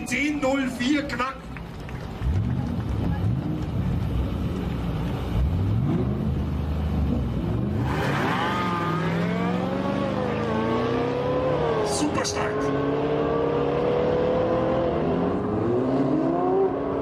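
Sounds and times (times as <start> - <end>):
drag racing car accelerating: 2.1 - 17.0.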